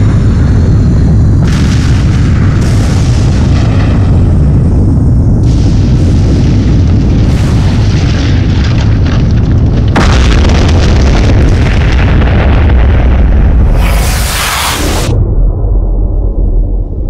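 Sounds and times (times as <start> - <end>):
booming blasts: 0.0 - 17.0
deep rumble: 0.0 - 17.0
rush of rough noise: 0.0 - 17.0.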